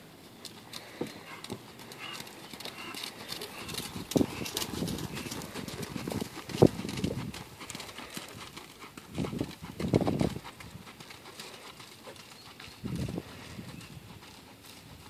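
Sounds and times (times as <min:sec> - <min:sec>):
hoofbeats in deep sand: 0:00.0 - 0:15.0.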